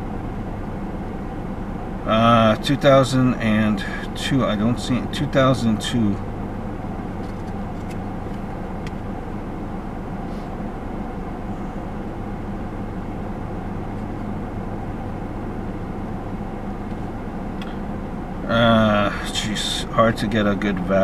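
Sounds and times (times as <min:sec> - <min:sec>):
car cabin hum and air noise: 0:00.0 - 0:21.0.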